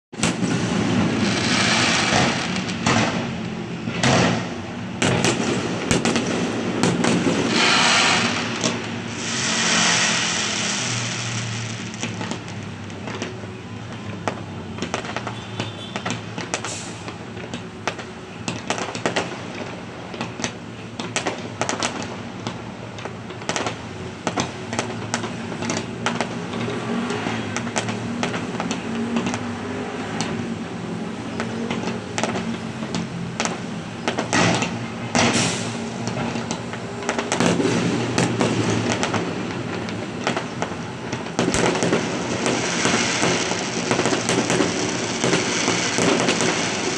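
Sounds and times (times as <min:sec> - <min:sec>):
fireworks bangs: 0:00.2 - 0:46.9
fireworks crackling: 0:00.2 - 0:46.9
fireworks rushing: 0:00.2 - 0:46.9.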